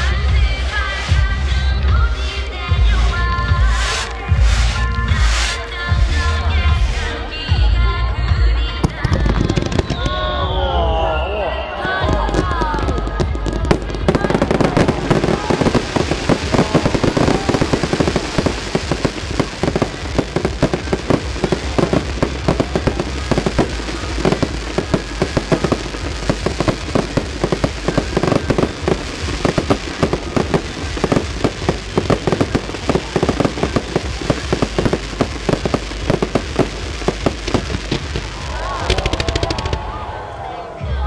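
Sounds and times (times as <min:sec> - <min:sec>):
fireworks bangs and crackling: 0:00.0 - 0:07.6, 0:08.2 - 0:41.0.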